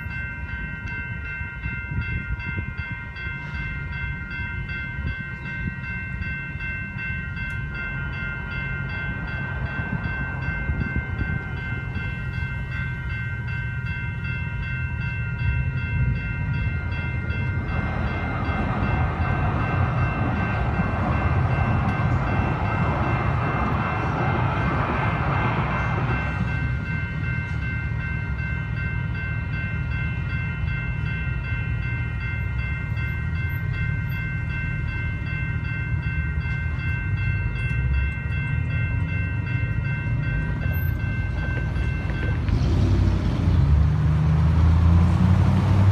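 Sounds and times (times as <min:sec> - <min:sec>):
railway crossing bells ringing: 0:00.0 - 0:45.9
train wheels rushing on rails: 0:00.0 - 0:45.9.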